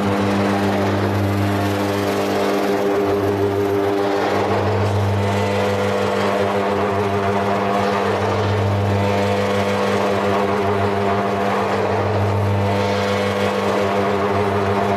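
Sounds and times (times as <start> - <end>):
blender motor hum: 0.0 - 14.9.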